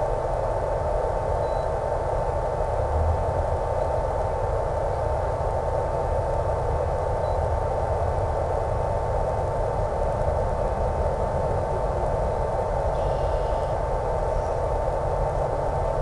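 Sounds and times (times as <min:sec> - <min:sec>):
high hum tone: 0:00.0 - 0:16.0.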